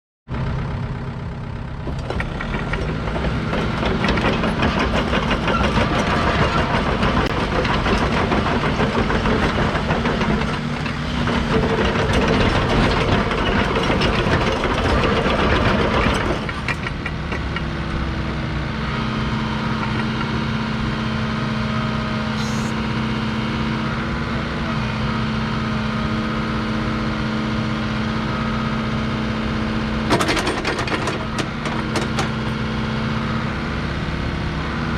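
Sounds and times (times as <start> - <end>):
excavator diesel engine running: 0.3 - 34.9.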